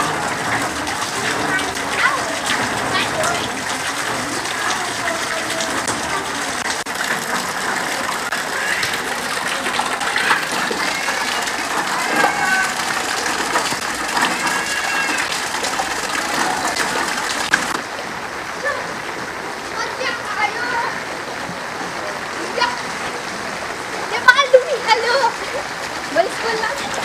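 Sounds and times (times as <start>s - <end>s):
floodwater rushing: 0.0s - 27.0s
rain: 0.0s - 27.0s
water splashes: 0.0s - 27.0s.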